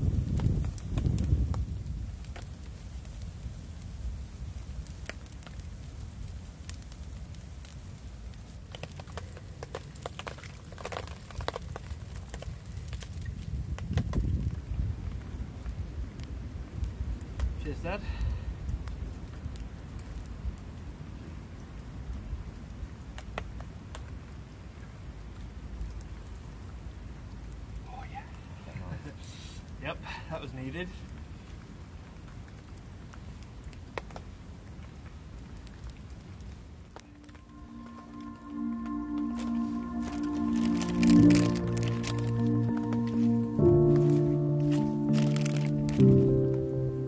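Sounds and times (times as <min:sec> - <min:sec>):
fire pops: 0:00.0 - 0:24.3, 0:30.9 - 0:47.0
campfire crackling: 0:00.0 - 0:47.0.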